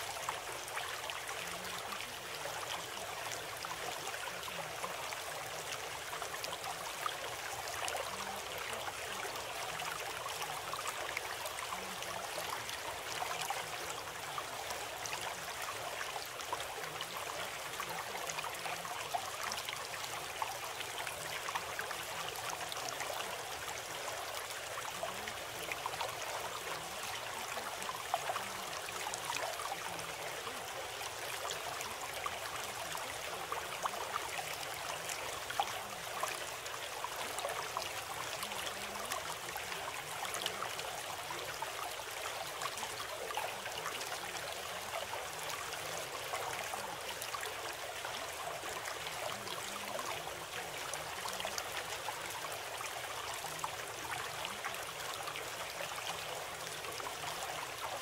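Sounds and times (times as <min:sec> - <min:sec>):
stream water running and trickling: 0:00.0 - 0:58.0.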